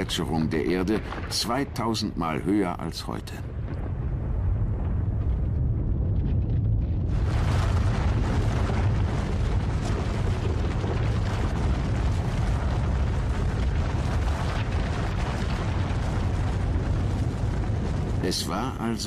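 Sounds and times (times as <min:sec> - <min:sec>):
deep rumbling: 0:00.0 - 0:19.0.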